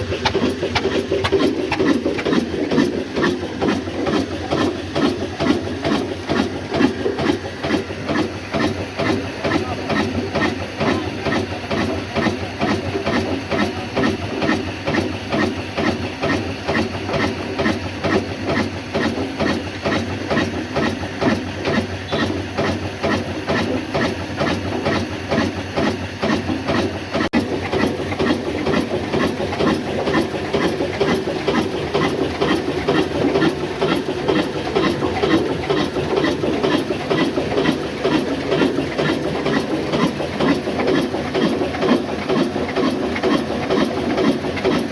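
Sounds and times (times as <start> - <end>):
diesel engine exhaust knocks: 0.0 - 44.9
mill machinery hum: 0.0 - 44.9.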